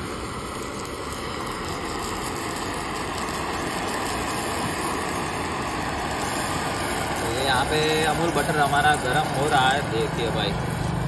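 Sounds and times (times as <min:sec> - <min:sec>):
gas torch hissing: 0:00.0 - 0:11.0.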